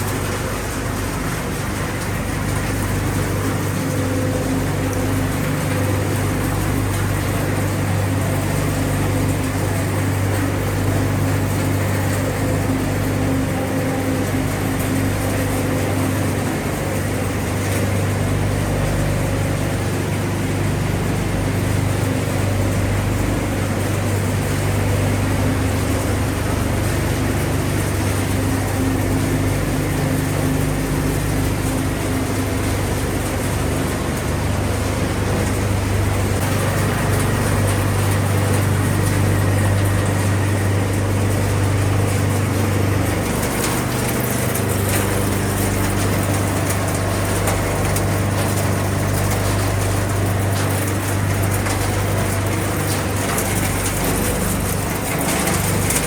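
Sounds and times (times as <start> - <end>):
recycling machinery running: 0.0 - 56.0.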